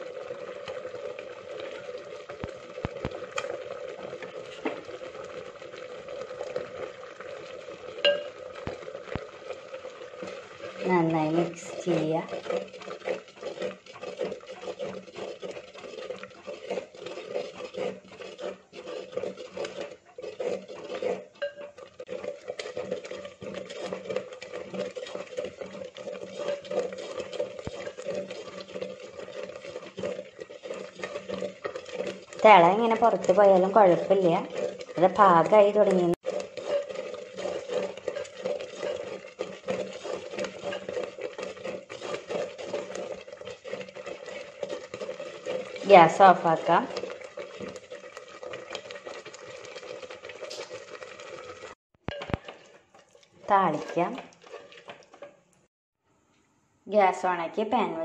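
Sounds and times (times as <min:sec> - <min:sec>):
spoon scraping clay pot: 0:00.0 - 0:55.6.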